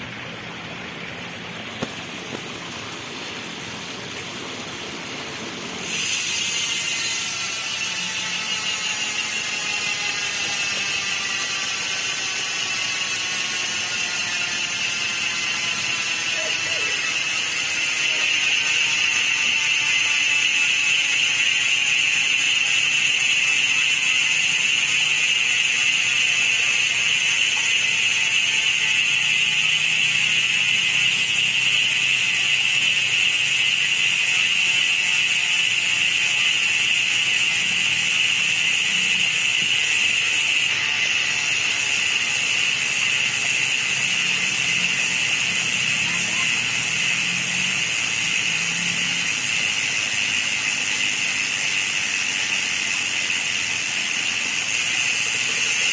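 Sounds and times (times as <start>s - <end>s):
bicycle freehub ratcheting buzz: 0.0s - 55.9s.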